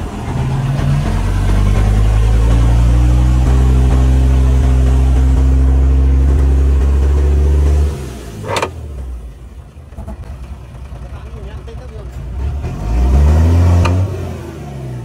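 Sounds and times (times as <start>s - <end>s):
heavy diesel engine revving: 0.0s - 15.0s.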